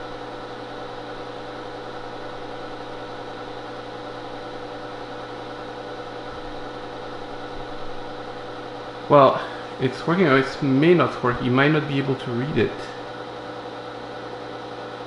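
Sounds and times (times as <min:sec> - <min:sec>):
bench equipment humming: 0:00.0 - 0:15.0.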